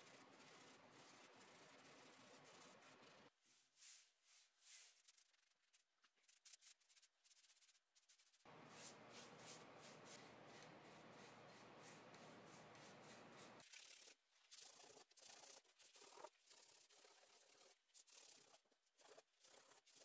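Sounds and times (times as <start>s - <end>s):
wax brush brushing wood: 0.0s - 20.0s.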